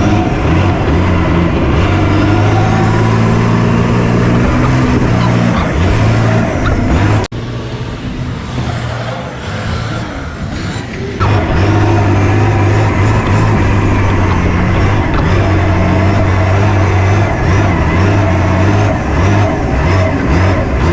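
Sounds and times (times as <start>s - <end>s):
diesel engine running loud: 0.0s - 20.9s.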